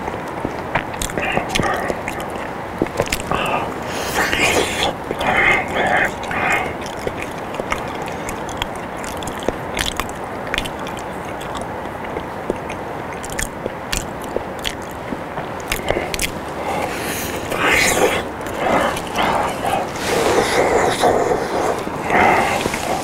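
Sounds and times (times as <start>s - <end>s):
chewing soft food: 0.0s - 23.0s
wet mouth clicks and lip smacks: 0.0s - 23.0s.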